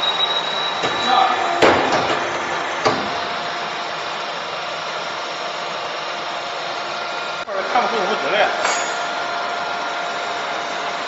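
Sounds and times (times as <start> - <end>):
hydraulic unit running: 0.0 - 11.0.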